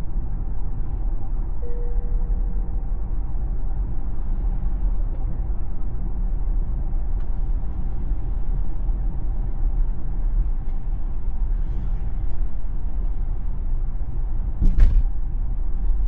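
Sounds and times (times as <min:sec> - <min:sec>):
car road and tyre rumble: 0:00.0 - 0:16.0.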